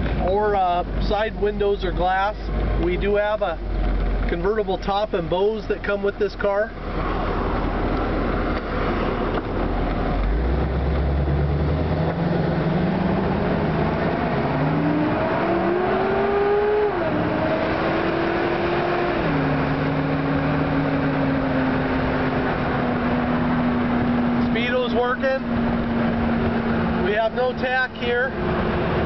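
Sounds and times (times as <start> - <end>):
car engine accelerating: 0.0 - 29.0
road and wind noise: 0.0 - 29.0.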